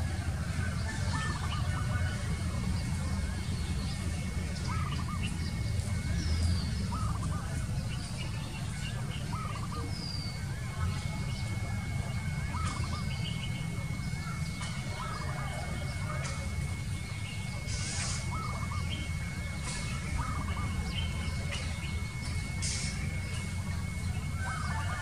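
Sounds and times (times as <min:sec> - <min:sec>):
bird trilled call: 0:00.0 - 0:25.0
steady low rumble: 0:00.0 - 0:25.0.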